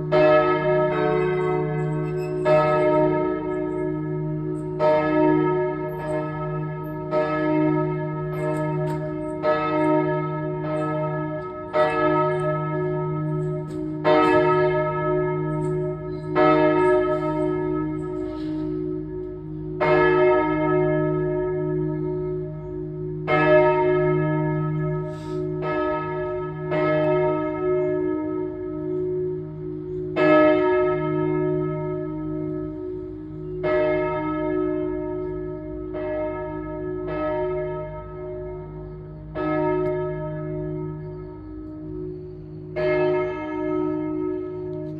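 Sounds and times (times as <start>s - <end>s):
church bell ringing: 0.0s - 44.9s.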